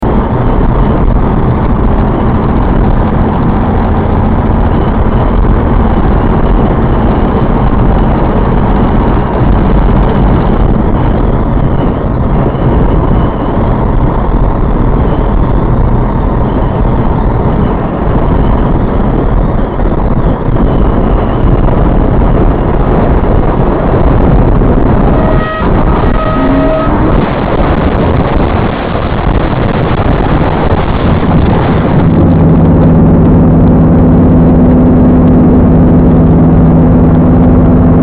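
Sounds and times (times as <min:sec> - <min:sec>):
strong wind rushing: 0:00.0 - 0:38.0
vehicle noise: 0:00.0 - 0:38.0.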